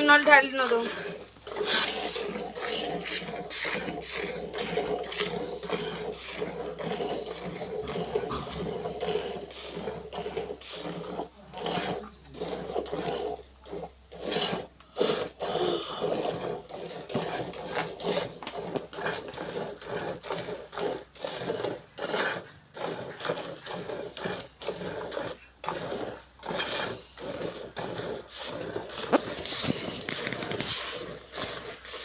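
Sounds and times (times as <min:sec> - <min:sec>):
milk squirting into pail: 0:00.0 - 0:32.0.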